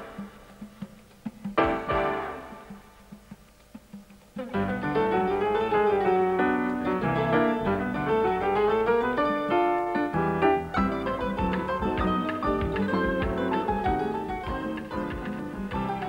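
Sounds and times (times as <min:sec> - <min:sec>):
instrumental keyboard music: 0:00.0 - 0:03.2, 0:04.2 - 0:16.0.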